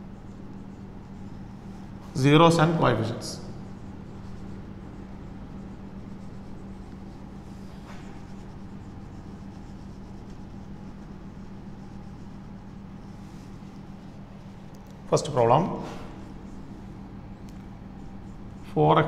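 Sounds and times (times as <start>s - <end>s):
marker pen scratching on whiteboard: 0.0s - 19.0s
steady low hum: 0.0s - 19.0s.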